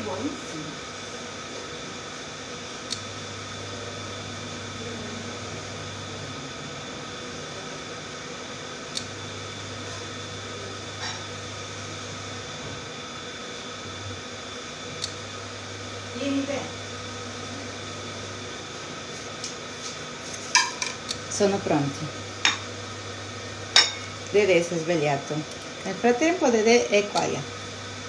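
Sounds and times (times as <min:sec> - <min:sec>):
cooktop mains hum: 0:00.0 - 0:28.0.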